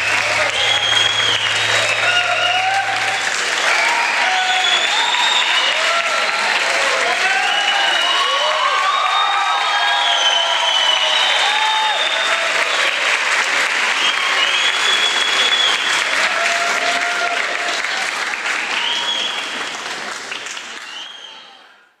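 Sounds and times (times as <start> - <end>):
audience applauding: 0.0 - 21.7
voices over applause: 0.0 - 22.0.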